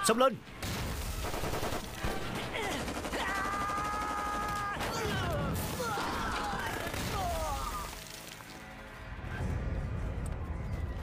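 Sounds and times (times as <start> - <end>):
dramatic background music: 0.4 - 11.0.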